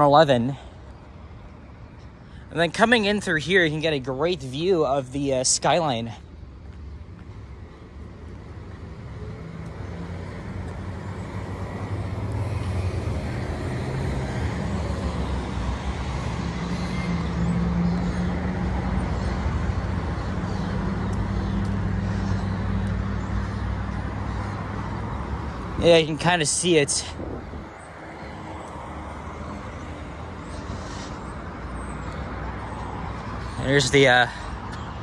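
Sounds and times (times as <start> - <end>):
road traffic engines humming: 0.0 - 35.0.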